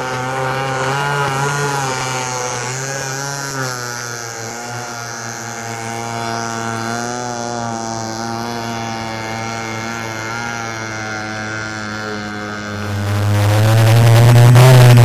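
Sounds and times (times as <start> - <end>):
model boat engine at high revs: 0.0 - 15.0.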